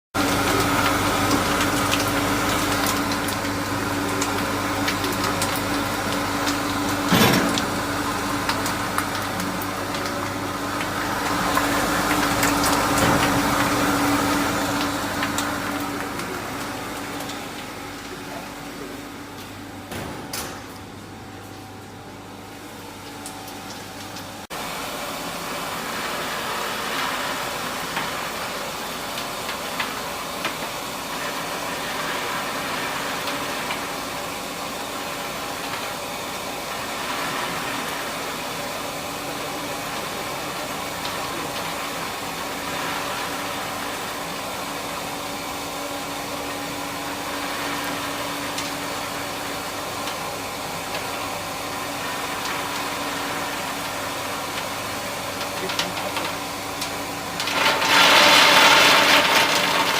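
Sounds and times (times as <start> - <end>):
frying machine motor hum: 0.2 - 59.9.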